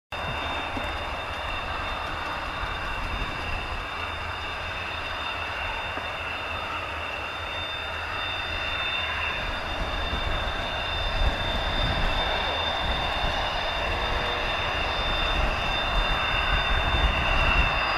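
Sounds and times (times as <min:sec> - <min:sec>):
jet engine whine: 0:00.1 - 0:17.9.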